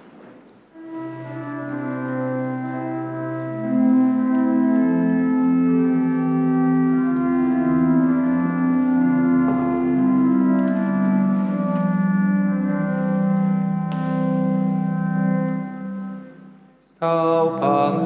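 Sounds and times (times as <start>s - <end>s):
church organ chords: 0.7s - 18.0s.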